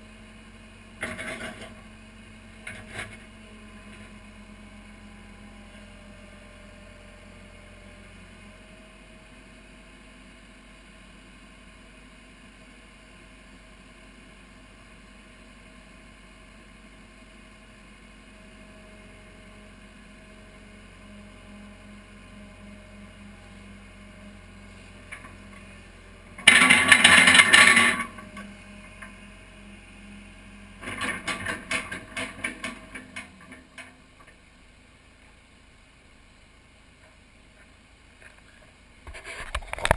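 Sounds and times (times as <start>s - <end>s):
excavator diesel engine idling: 0.0s - 39.1s.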